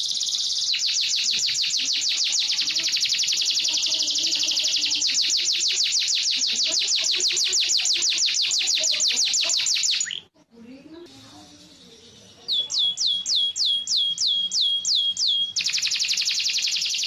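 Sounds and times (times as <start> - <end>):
canary singing rapid trill: 0.0 - 10.3, 11.1 - 17.0.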